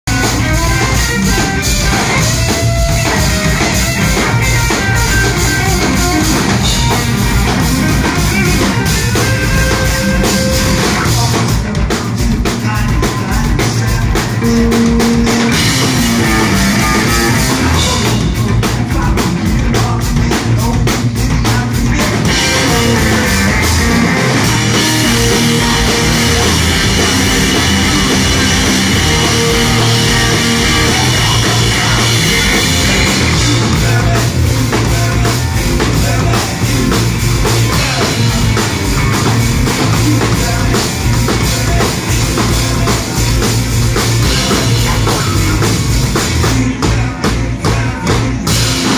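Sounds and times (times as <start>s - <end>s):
drum kit played hard: 0.0s - 48.9s
electric guitar: 0.0s - 48.9s.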